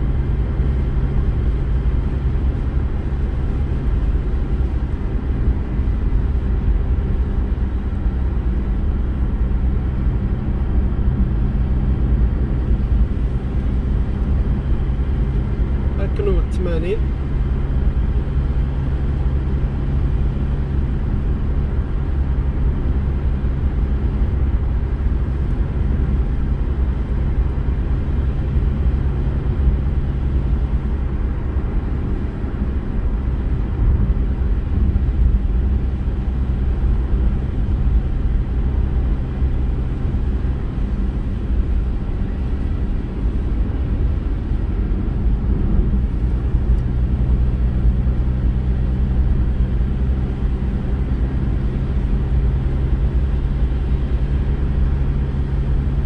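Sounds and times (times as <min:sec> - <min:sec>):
engine and road drone: 0:00.0 - 0:56.0.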